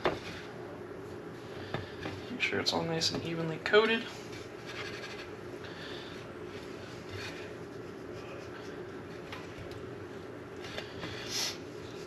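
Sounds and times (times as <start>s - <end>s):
low room hum: 0.0s - 12.0s
scratchy breadcrumb rustles: 0.0s - 12.0s.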